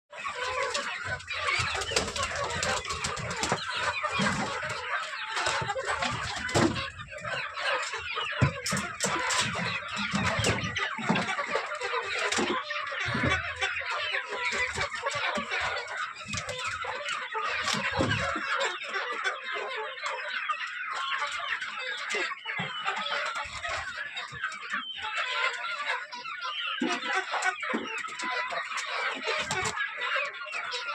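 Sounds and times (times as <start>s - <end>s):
chickens clucking: 0.1s - 30.9s.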